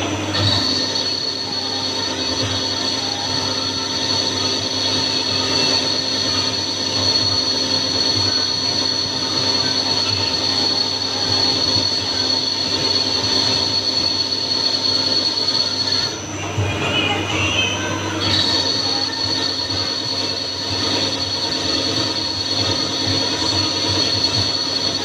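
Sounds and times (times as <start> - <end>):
constant mechanical noise: 0.0 - 25.0
lathe high-pitched whine: 0.0 - 25.0.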